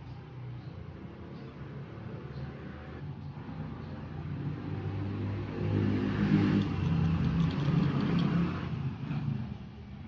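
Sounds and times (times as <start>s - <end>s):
vehicle engine passing: 1.0s - 9.8s.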